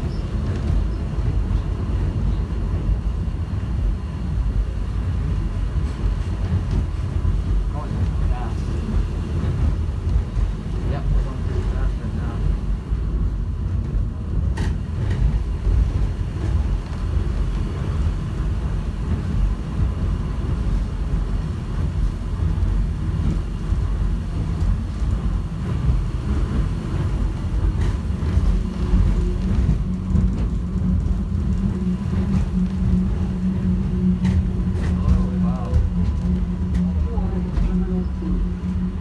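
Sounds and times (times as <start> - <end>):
subway train rumble: 0.0 - 39.0.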